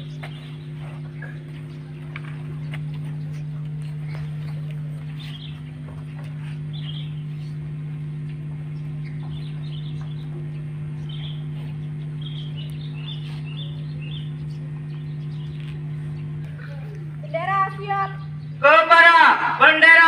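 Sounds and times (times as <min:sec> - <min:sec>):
small birds chirping: 0:00.0 - 0:18.8
steady low hum: 0:00.0 - 0:20.0.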